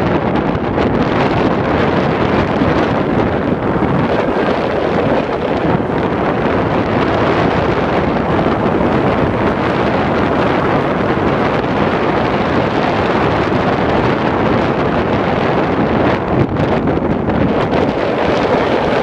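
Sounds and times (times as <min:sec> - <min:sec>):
car road noise: 0:00.0 - 0:19.0
wind on microphone: 0:00.0 - 0:19.0.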